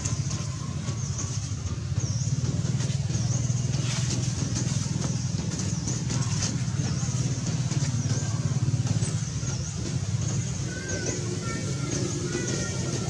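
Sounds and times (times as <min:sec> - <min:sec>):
engine running with low pulsing hum: 0:00.0 - 0:13.0.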